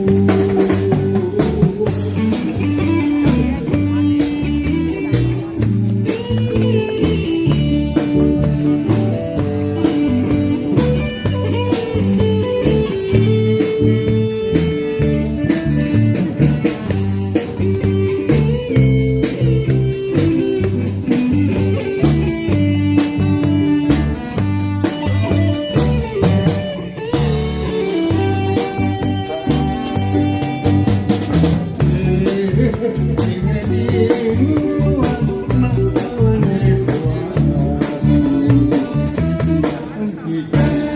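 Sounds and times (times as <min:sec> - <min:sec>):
guitar-led instrumental band music: 0:00.0 - 0:40.9.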